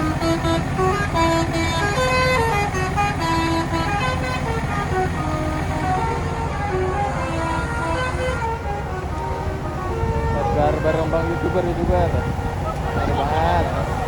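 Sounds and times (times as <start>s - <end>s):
diesel engine running: 0.0s - 14.0s
musical bus horn tune: 0.0s - 14.0s.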